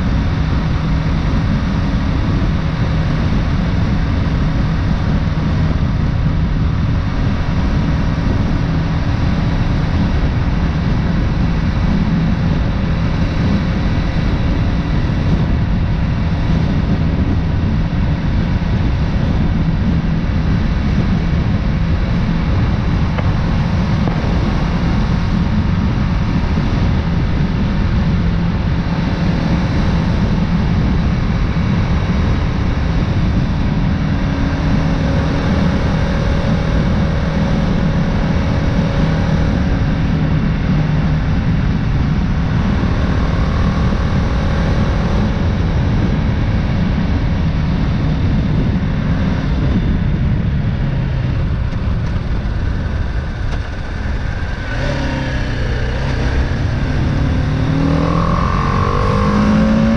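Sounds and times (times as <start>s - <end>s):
motorcycle engine running: 0.0s - 59.9s
wind rush on microphone: 0.0s - 59.9s.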